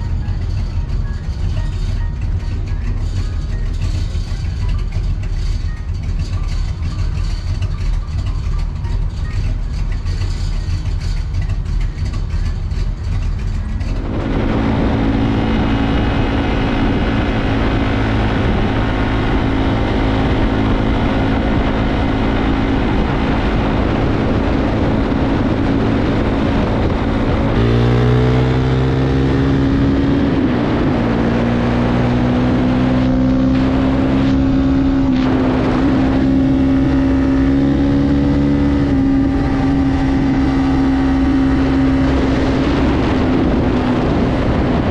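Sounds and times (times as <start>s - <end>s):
car engine: 0.0s - 44.9s
road noise: 0.0s - 44.9s.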